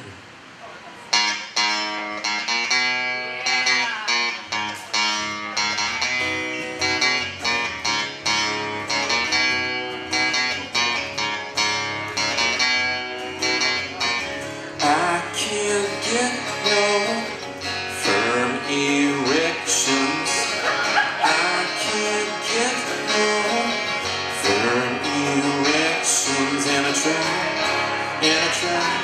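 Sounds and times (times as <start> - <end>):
acoustic guitar chords: 1.1 - 29.0.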